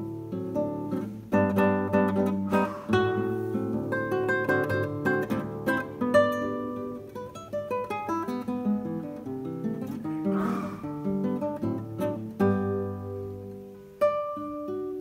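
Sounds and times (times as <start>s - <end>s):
fingerpicked classical guitar: 0.0s - 15.0s.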